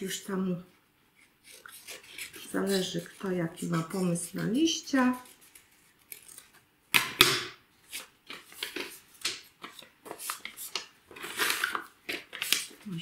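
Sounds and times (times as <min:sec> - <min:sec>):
paper rustling: 0:01.2 - 0:06.6, 0:07.8 - 0:13.0.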